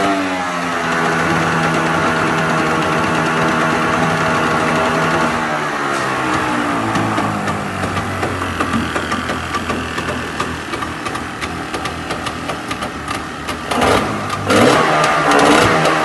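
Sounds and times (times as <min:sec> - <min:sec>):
engine running and revving: 0:00.0 - 0:16.0.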